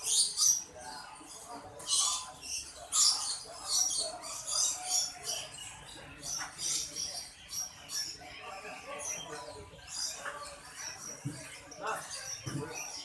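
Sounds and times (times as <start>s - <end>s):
caged songbirds chirping: 0.0s - 13.0s.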